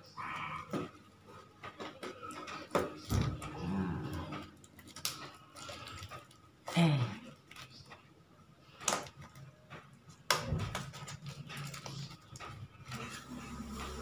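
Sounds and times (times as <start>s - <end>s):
paper and plastic rustling: 0.7s - 14.0s.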